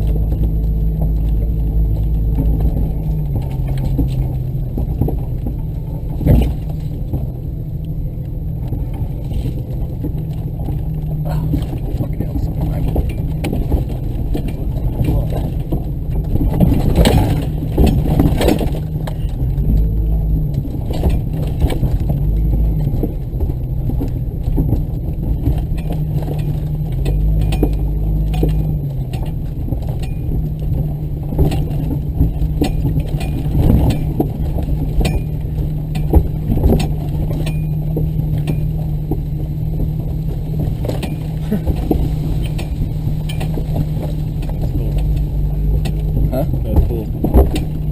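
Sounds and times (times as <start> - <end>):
body and suspension rattles: 0.0 - 47.9
off-road vehicle engine: 0.0 - 47.9.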